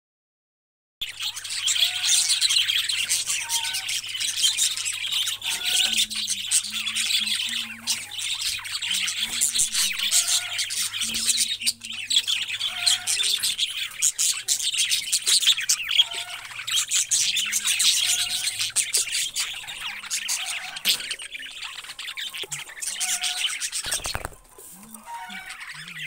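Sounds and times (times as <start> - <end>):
budgerigars chattering and squawking: 1.0 - 26.0.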